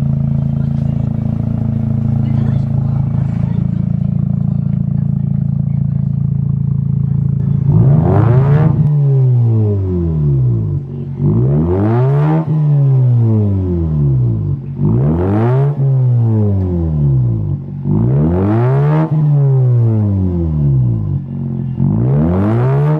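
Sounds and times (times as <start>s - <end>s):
rotary engine revving: 0.0s - 22.9s.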